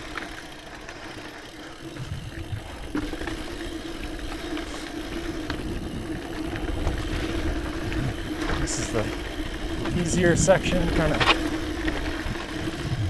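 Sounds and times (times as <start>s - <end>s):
bike tyres on dirt trail: 0.0s - 13.0s.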